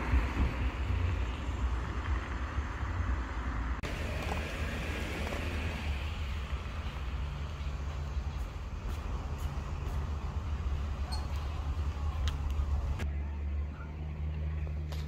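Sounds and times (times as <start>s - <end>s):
street rumble with hiss: 0.0s - 15.0s.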